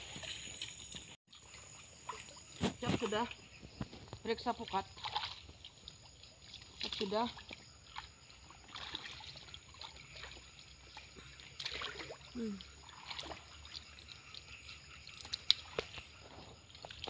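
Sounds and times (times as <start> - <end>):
person wading through water: 0.0 - 17.0.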